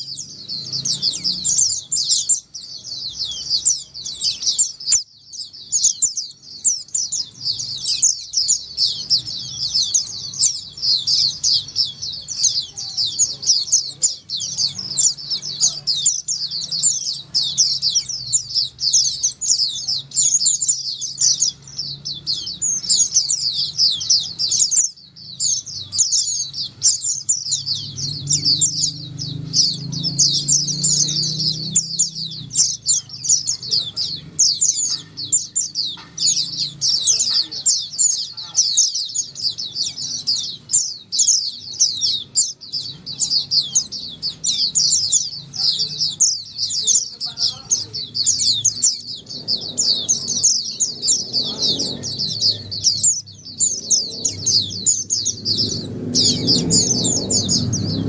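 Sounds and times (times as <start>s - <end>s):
birds chirping and twittering: 0.0s - 58.0s.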